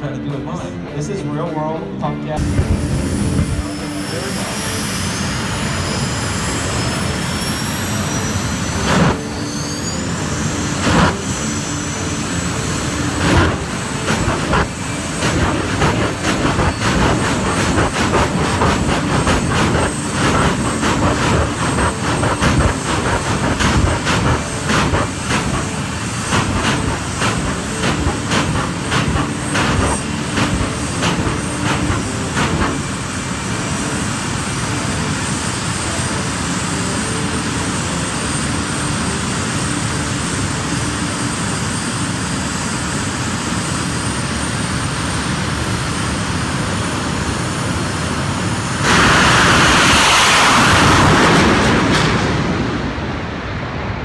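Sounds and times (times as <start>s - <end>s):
turbine engine with high whine: 0.0s - 54.0s.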